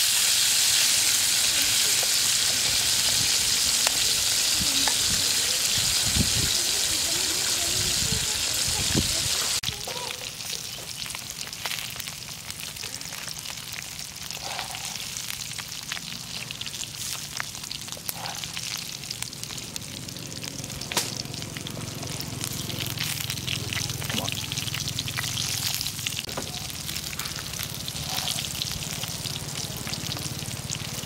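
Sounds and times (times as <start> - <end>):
frying sizzle with crackles: 0.0 - 31.0.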